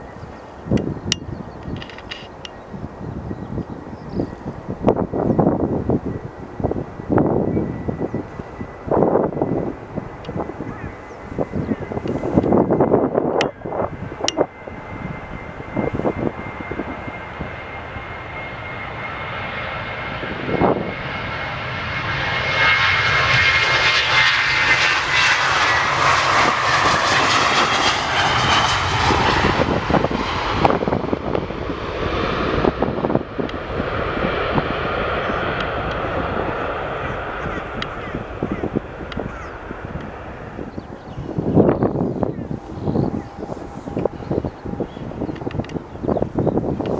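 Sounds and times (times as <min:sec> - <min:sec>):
high engine whine: 0:00.0 - 0:46.9
jet airliner engines passing: 0:00.0 - 0:46.9
wind buffeting microphone: 0:00.0 - 0:46.9.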